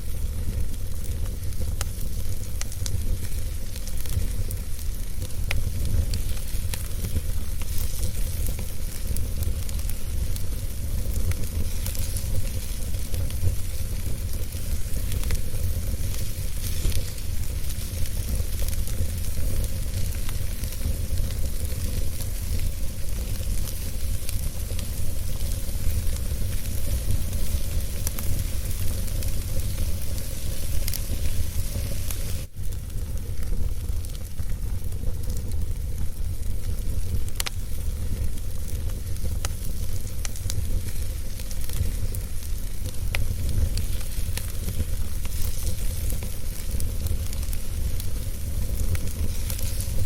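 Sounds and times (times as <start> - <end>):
fire crackles and pops: 0.0 - 50.0
fire rumbling and hissing: 0.0 - 50.0.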